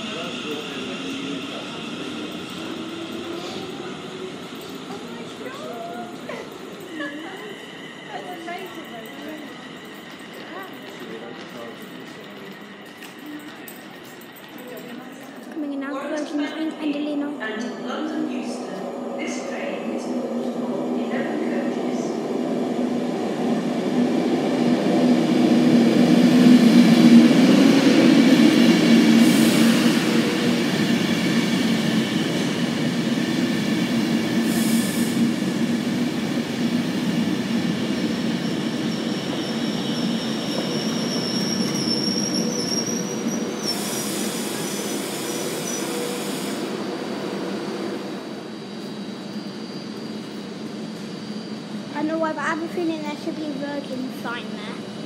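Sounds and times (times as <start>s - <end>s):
electric train rolling past: 0.0s - 55.0s.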